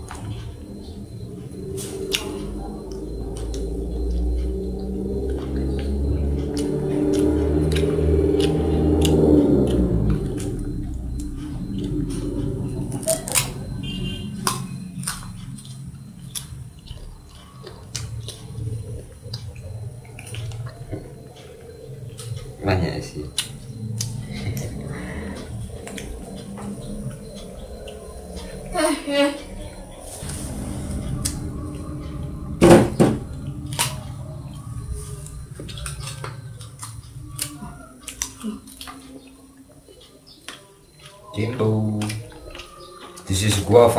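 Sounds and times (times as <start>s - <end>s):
monkey chewing fruit: 0.0s - 28.8s, 29.4s - 43.9s
low background hum: 0.0s - 43.9s
steady low rumble: 0.0s - 43.9s.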